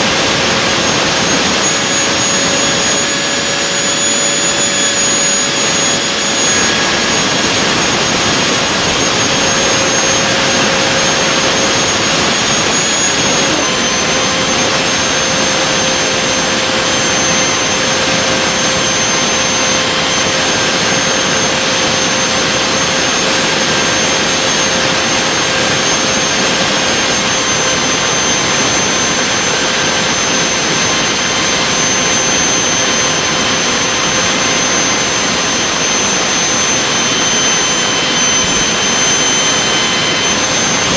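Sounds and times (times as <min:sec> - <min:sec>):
high turbine whine: 0:00.0 - 0:40.9
turbojet engine roaring: 0:00.0 - 0:40.9.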